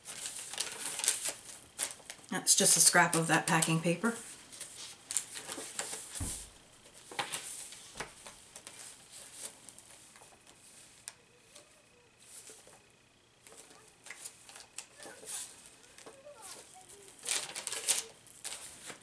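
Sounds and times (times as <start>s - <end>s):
light paper crinkles and taps: 0.0s - 2.2s, 4.5s - 12.8s, 13.4s - 19.0s
paper rustling: 0.0s - 2.2s, 3.0s - 12.8s, 13.4s - 19.0s.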